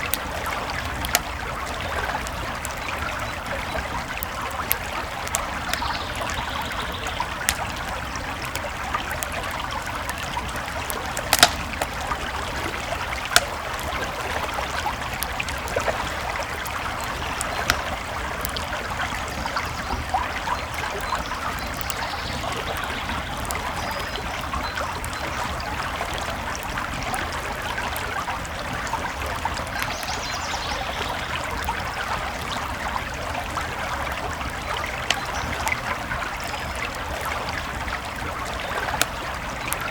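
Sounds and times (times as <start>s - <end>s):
campfire crackling and popping: 0.0s - 39.9s
creek flowing: 0.0s - 39.9s.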